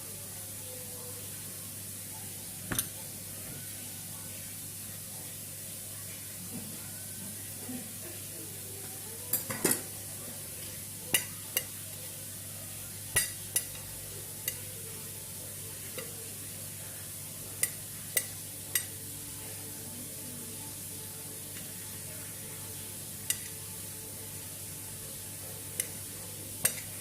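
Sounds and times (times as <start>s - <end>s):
food sizzling in frying pan: 0.5s - 27.0s.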